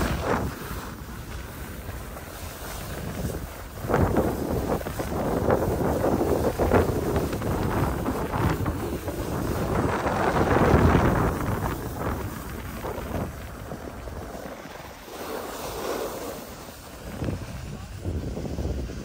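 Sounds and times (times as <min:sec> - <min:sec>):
skis sliding over snow: 0:00.0 - 0:19.0
wind rushing over microphone: 0:00.0 - 0:19.0.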